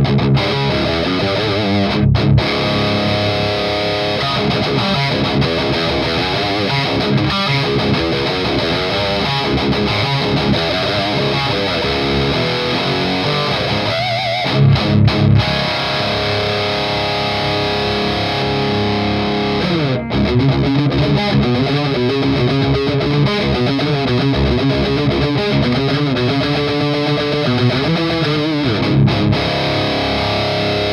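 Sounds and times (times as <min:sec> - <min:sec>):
distorted electric guitar riffing: 0:00.0 - 0:30.9.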